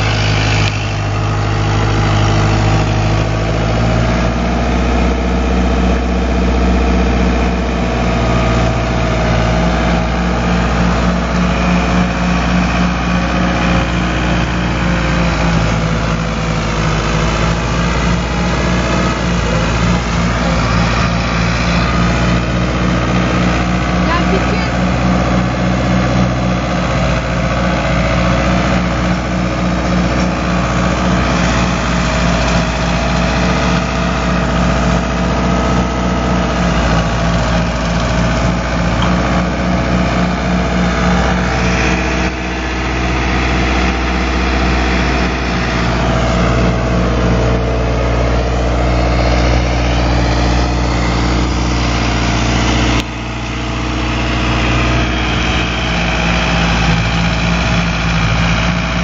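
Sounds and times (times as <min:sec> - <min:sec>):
rotary mower cutting grass: 0:00.0 - 0:59.0
tractor diesel engine running: 0:00.0 - 0:59.0.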